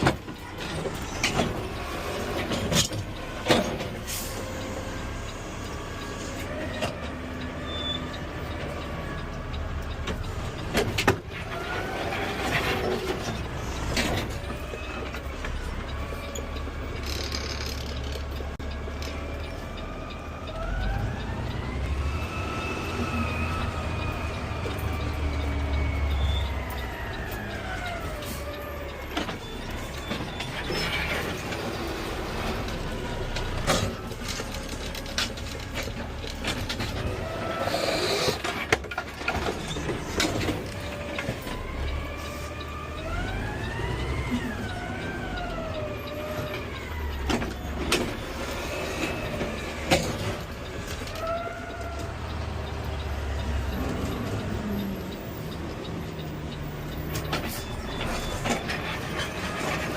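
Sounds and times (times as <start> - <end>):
truck engine rumble: 0.0 - 59.9.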